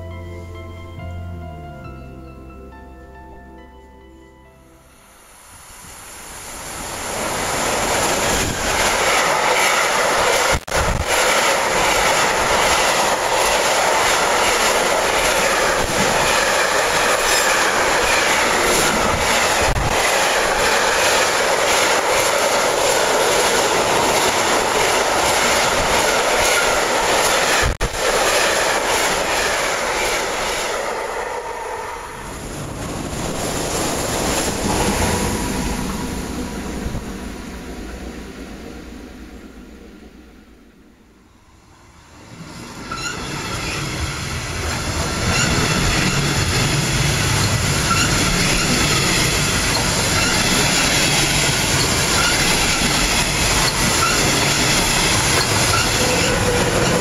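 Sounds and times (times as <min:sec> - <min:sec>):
electric train passing: 0:00.0 - 0:57.0
freight train wheels rumbling: 0:05.4 - 0:57.0.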